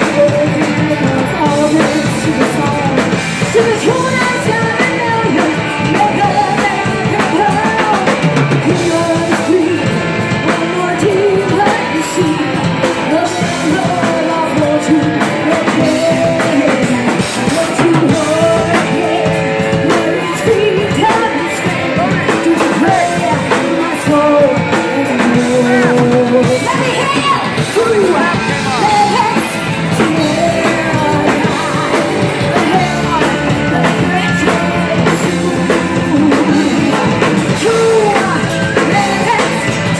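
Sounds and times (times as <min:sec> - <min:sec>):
bending melody line: 0:00.0 - 0:39.9
rock band playing: 0:00.0 - 0:39.9.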